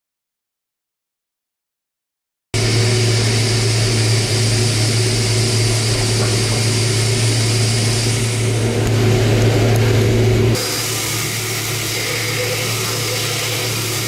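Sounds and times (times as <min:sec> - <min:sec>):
machine high whine: 0:02.6 - 0:14.0
machine low hum: 0:02.6 - 0:14.0.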